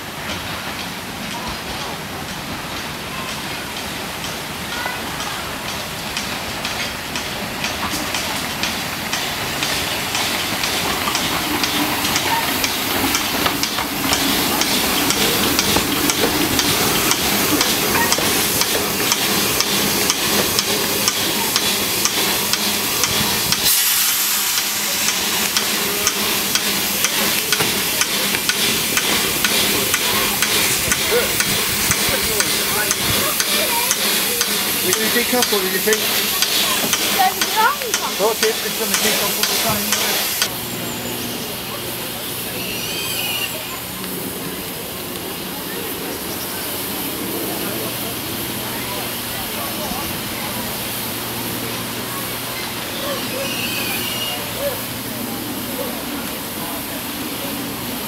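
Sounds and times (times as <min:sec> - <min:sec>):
steam hissing: 0:00.0 - 0:58.0
train wheels clicking on rails: 0:00.0 - 0:58.0.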